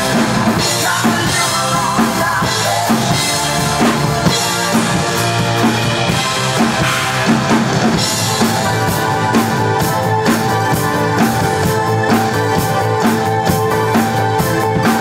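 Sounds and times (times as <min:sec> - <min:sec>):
drum kit playing: 0:00.0 - 0:15.0
rock song with guitar: 0:00.0 - 0:15.0.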